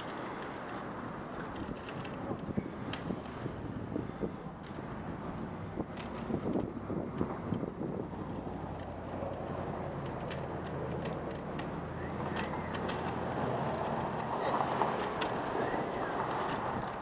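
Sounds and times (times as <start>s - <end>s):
light clicks and ticks: 0.0s - 3.6s, 4.2s - 17.0s
city street traffic: 0.0s - 17.0s
vehicle engine humming: 0.0s - 17.0s.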